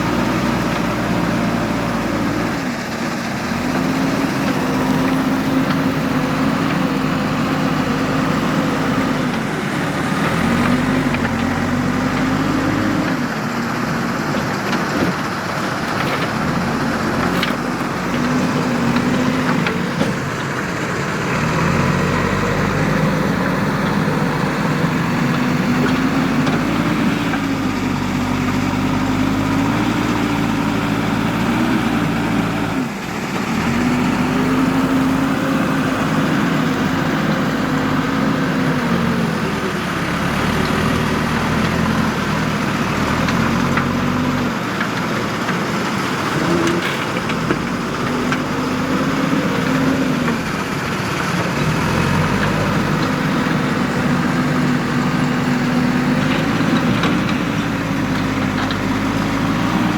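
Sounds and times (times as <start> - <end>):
diesel backhoe engine working: 0.0 - 59.9.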